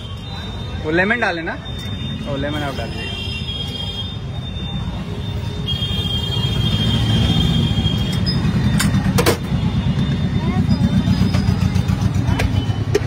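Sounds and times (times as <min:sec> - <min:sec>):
road traffic rumbling: 0:00.0 - 0:13.0.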